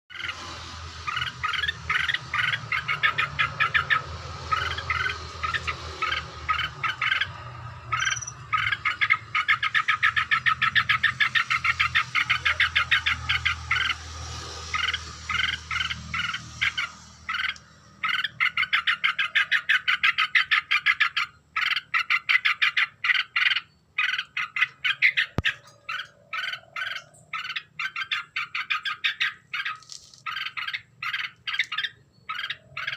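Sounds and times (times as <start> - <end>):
bird chattering calls: 0.1 - 32.9.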